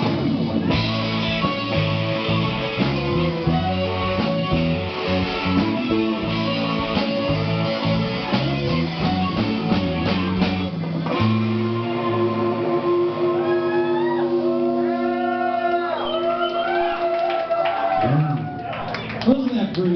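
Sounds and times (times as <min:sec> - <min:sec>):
rock band playing live: 0:00.0 - 0:17.1.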